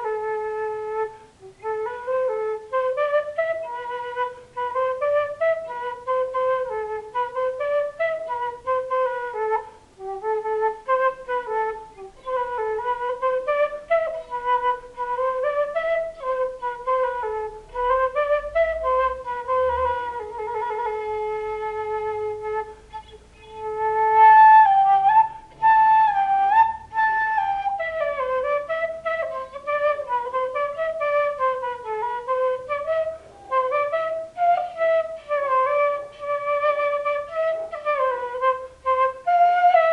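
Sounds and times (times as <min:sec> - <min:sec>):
cane flute melody: 0:00.0 - 0:39.9.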